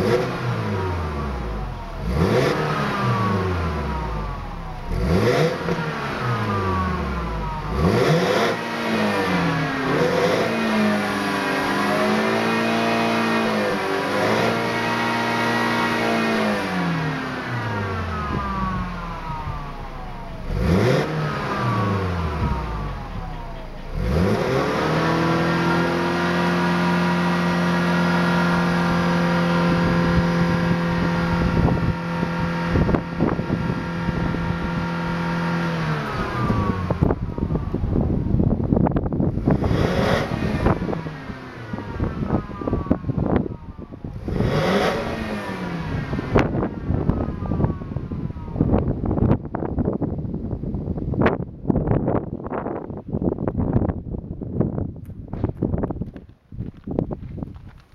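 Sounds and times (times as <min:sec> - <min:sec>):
car engine revving: 0:00.0 - 0:49.4.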